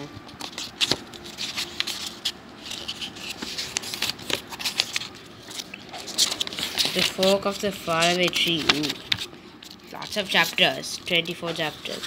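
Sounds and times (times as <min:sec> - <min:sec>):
book pages rustling: 0:00.0 - 0:12.0.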